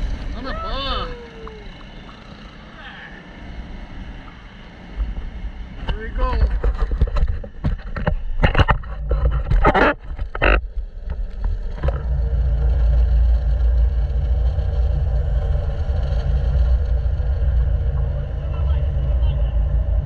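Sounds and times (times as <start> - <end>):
boat engine droning: 0.0 - 20.0
water noise: 0.0 - 20.0
wind: 0.0 - 20.0.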